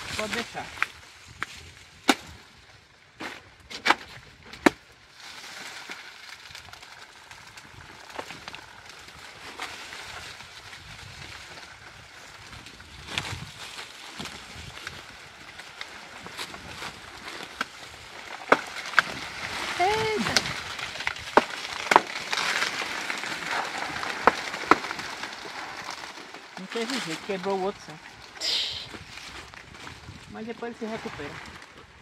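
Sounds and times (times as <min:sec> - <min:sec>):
leaves rustling and crackling: 0:00.0 - 0:32.0.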